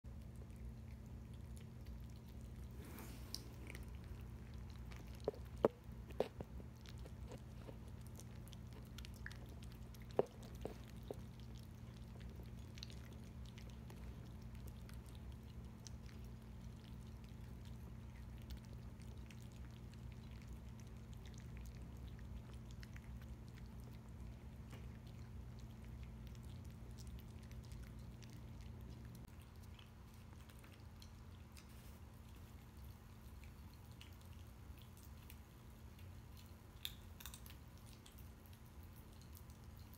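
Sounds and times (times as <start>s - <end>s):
cats chewing and licking: 0.0s - 39.9s
steady low hum: 0.0s - 39.9s.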